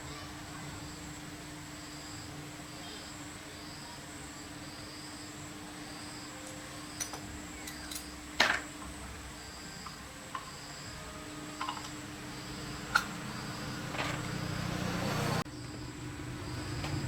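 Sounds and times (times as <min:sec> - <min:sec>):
faint insect chirping: 0:00.0 - 0:17.0
steady hum: 0:00.0 - 0:17.0.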